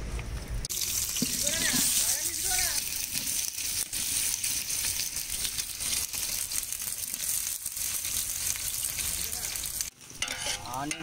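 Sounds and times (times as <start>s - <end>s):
onions sizzling in hot oil: 0.7s - 11.0s.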